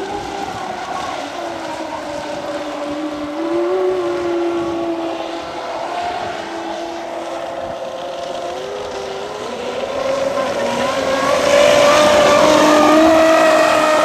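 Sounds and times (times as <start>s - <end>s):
rc boat motor whine: 0.0s - 14.0s.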